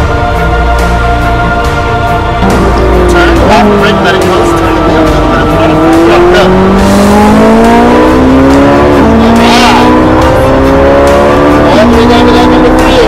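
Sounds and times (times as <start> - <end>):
sports car engine accelerating: 2.3 - 13.0.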